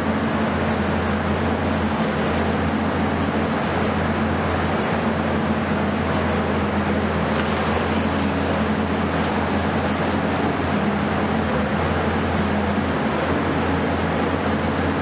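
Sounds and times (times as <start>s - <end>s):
excavator diesel engines running: 0.0s - 15.0s.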